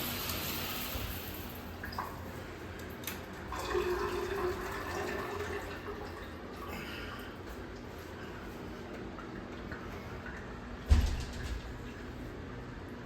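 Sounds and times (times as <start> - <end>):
shower running: 0.0 - 12.2.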